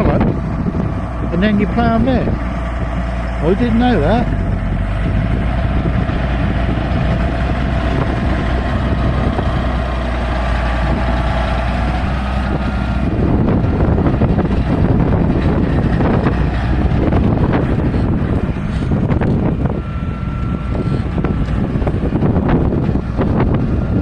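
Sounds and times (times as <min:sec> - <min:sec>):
tractor engine running: 0:00.0 - 0:24.0
wind buffeting microphone: 0:00.0 - 0:24.0.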